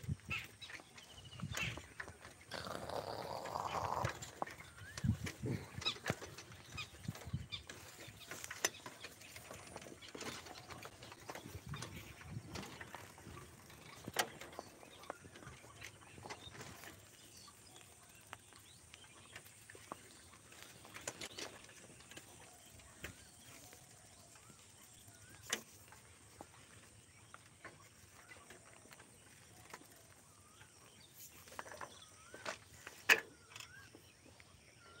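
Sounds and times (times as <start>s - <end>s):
bicycle rattling on dirt road: 0.0s - 35.0s
birds chirping: 0.0s - 35.0s.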